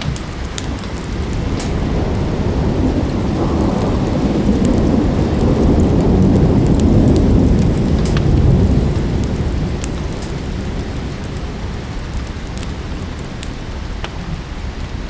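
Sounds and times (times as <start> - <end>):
low rumble of thunder: 0.0 - 15.0
steady rain: 0.0 - 15.0
wood fire popping and crackling: 0.0 - 15.0.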